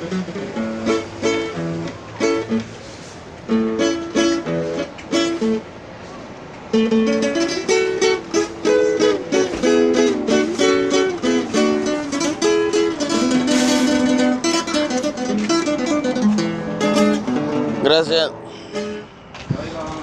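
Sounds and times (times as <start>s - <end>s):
acoustic guitar strumming chords: 0.0s - 19.5s.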